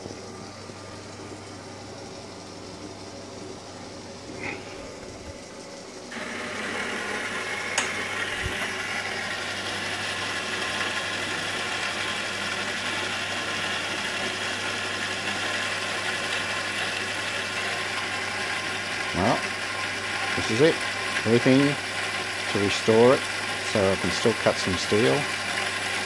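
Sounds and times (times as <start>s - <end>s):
band saw running: 3.8s - 26.0s.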